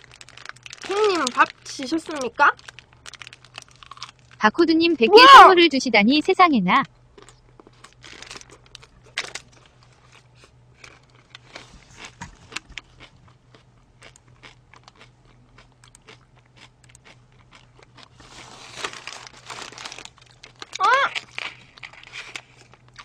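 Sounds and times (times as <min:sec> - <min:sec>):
close-miked crunchy chewing: 0:00.0 - 0:04.4, 0:07.1 - 0:23.0.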